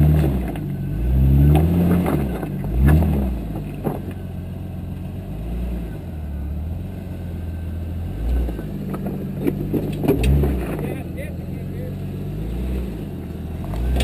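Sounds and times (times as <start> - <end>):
engine revving and running: 0.0 - 4.2, 5.0 - 14.0.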